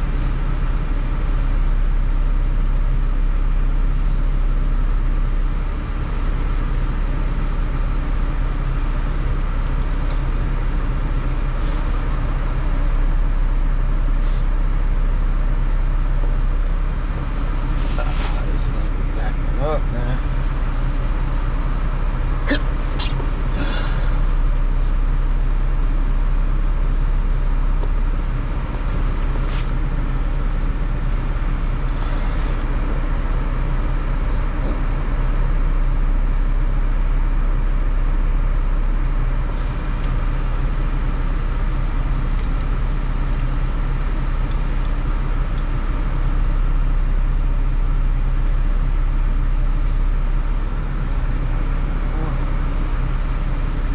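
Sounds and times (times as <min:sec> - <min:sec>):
low vehicle hum: 0:00.0 - 0:53.9.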